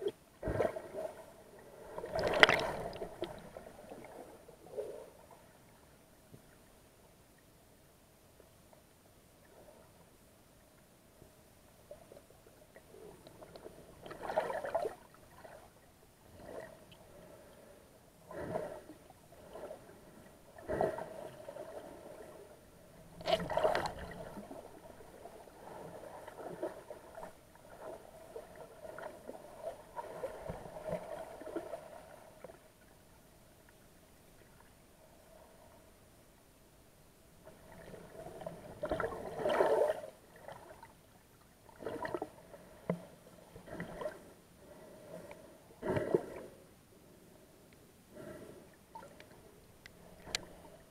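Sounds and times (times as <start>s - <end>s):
underwater sloshing and gurgling: 0.0s - 7.7s, 8.4s - 50.9s.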